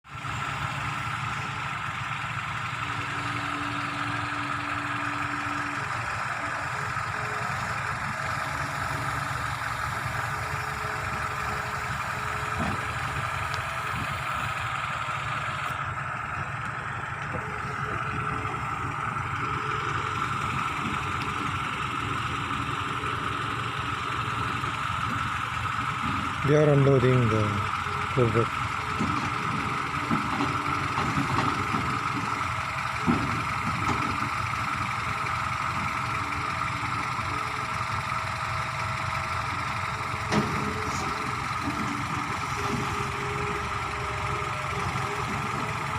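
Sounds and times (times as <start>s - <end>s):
engine idling with low rumble: 0.0s - 45.9s.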